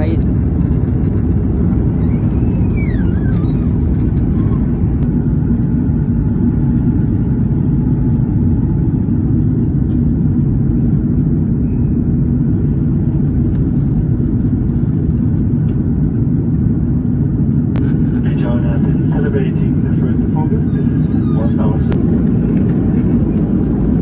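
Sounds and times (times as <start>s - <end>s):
jet engine and airflow roar: 0.0s - 24.0s.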